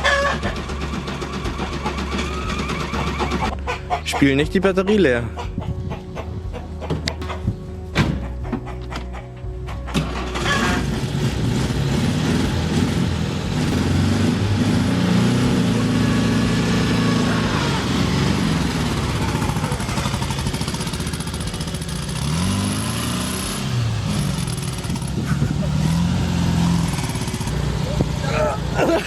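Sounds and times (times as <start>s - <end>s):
car engine revving: 0.0s - 4.3s, 5.0s - 29.0s.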